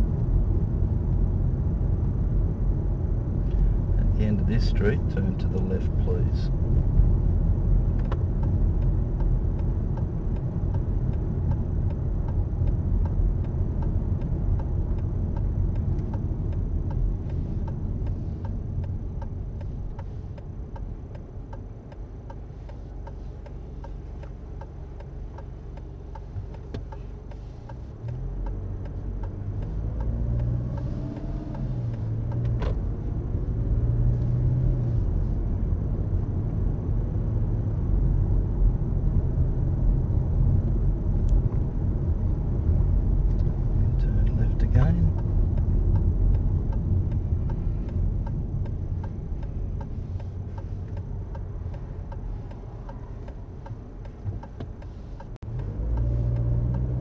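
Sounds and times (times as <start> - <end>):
car engine and road noise: 0.0 - 57.0
turn indicator ticking: 3.4 - 57.0.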